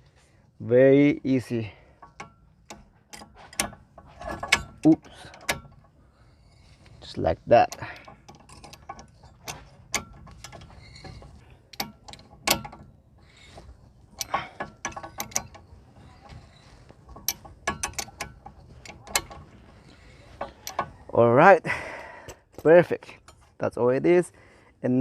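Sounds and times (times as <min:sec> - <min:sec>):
metallic clicks of tools and brake parts: 0:01.4 - 0:23.6.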